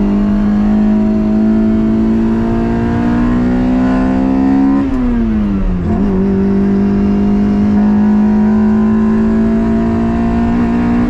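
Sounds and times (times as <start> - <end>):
car engine revving and accelerating: 0.0 - 11.0.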